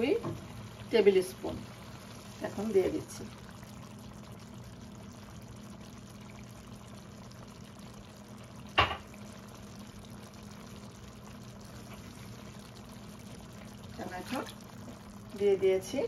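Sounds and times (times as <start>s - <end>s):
pot simmering hiss: 0.0s - 16.0s.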